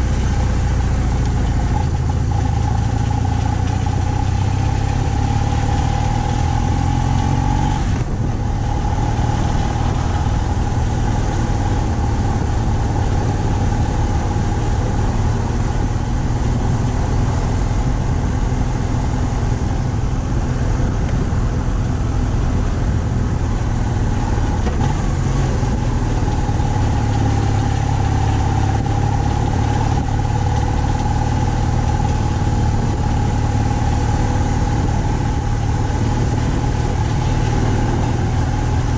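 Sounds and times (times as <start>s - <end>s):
motorcycle engine cruising: 0.0s - 38.9s
wind rush: 7.4s - 38.9s.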